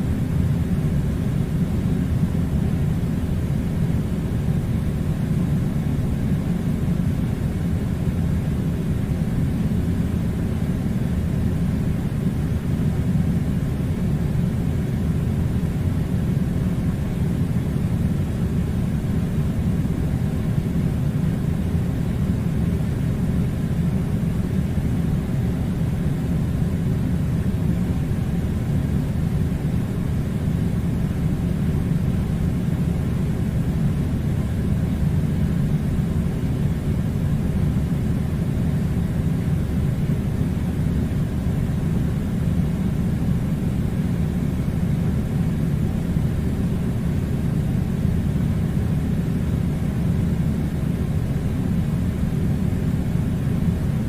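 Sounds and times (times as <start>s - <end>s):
air conditioner humming: 0.0s - 54.0s.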